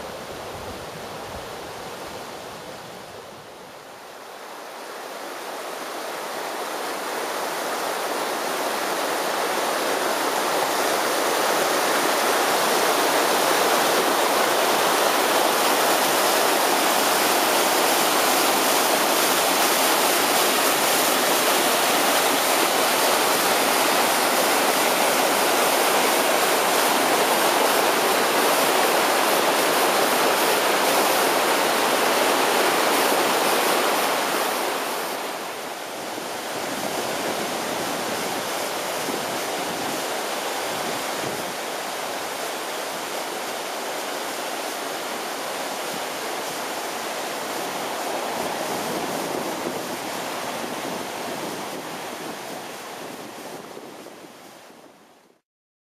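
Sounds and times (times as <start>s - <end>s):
white water rushing over rocks: 0.0s - 55.2s.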